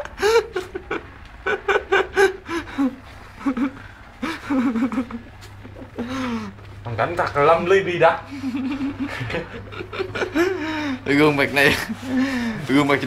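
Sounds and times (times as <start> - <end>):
people laughing: 0.0 - 6.6, 8.2 - 12.9.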